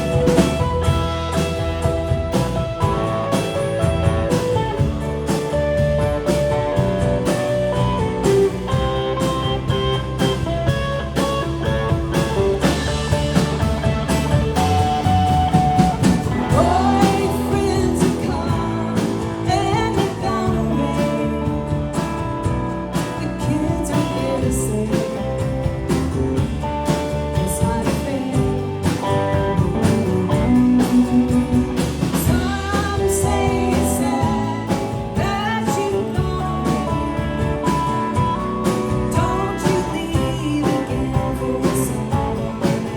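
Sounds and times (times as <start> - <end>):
live country-rock band playing: 0.0 - 42.9
pitch-bending guitar lead line: 0.0 - 42.9.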